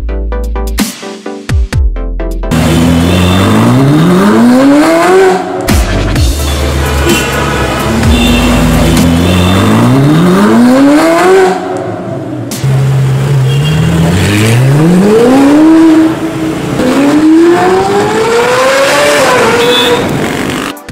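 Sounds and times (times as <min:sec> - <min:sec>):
sports car engine revving: 0:02.5 - 0:05.8, 0:06.4 - 0:20.8.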